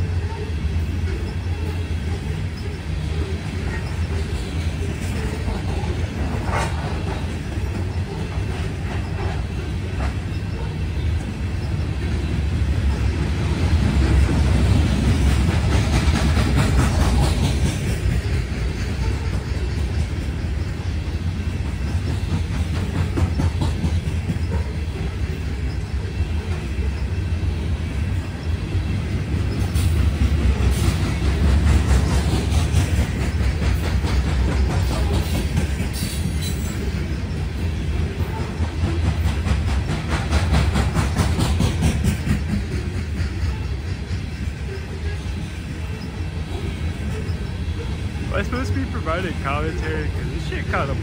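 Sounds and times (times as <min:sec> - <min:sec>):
low train rumble: 0:00.0 - 0:51.0
train wheels clacking on rail joints: 0:00.0 - 0:51.0.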